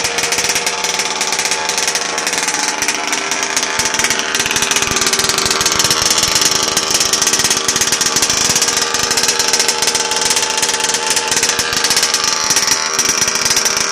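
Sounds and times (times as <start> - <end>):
two-stroke engine idling: 0.0 - 13.9.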